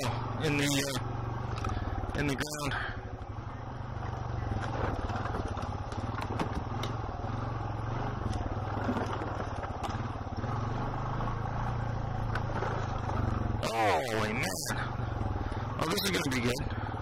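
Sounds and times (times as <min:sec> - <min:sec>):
quad engine running: 0:00.0 - 0:17.0.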